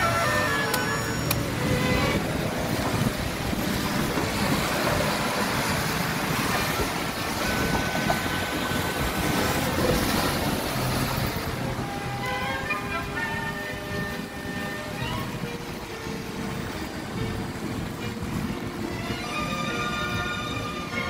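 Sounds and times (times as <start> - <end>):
traffic on wet roads: 0.0 - 21.0.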